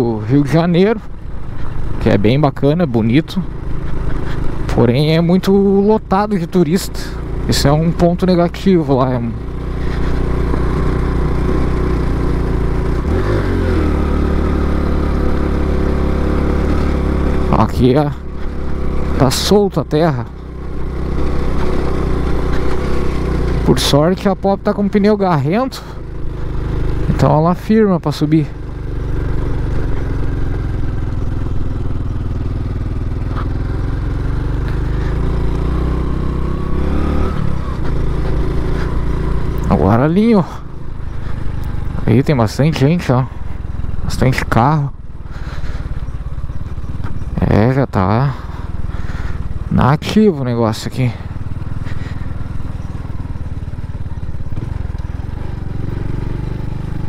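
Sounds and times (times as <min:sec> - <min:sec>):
small motorcycle engine under load: 0:00.0 - 0:57.0.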